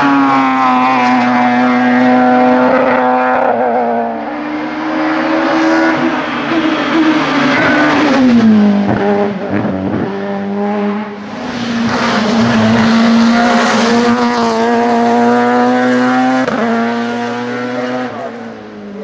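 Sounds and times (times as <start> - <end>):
racing engine at high revs: 0.0 - 19.0.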